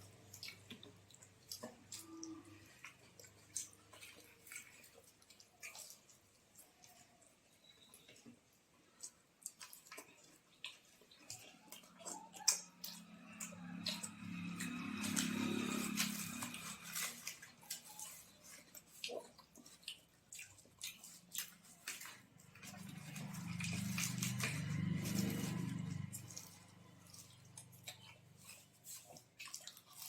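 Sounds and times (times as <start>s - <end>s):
wet chewing and lip-smacking: 0.0s - 30.0s.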